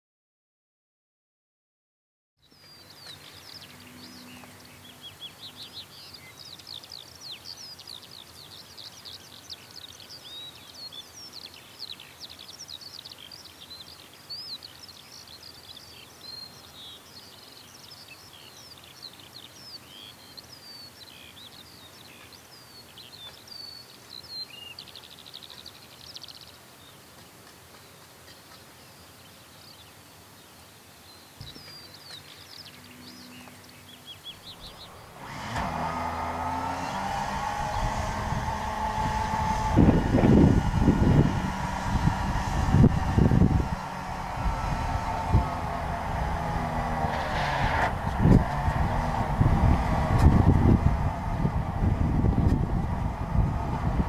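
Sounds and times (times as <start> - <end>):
outdoor background hiss: 2.4 - 54.0
small birds chirping: 2.4 - 54.0.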